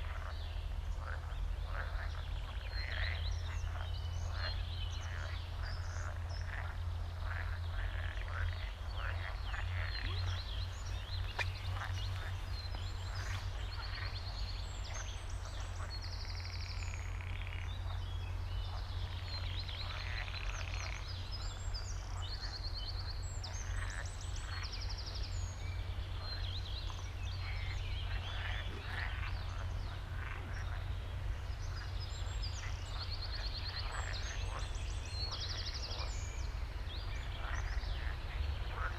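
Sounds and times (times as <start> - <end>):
birds singing trills: 0.0 - 38.9
frogs croaking: 0.0 - 38.9.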